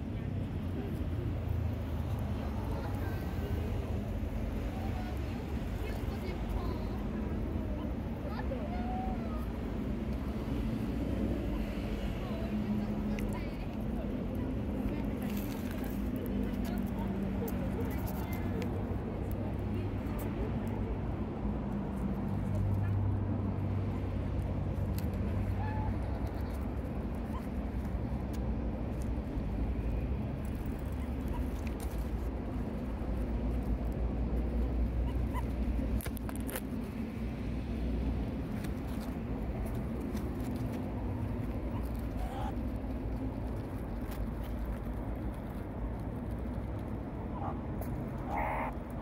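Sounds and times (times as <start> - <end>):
city street traffic rumble: 0.0 - 49.0.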